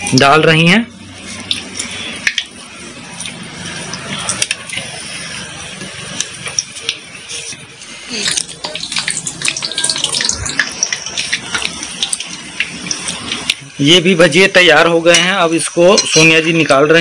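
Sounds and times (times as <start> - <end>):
batter deep-frying in hot oil: 0.0 - 17.0.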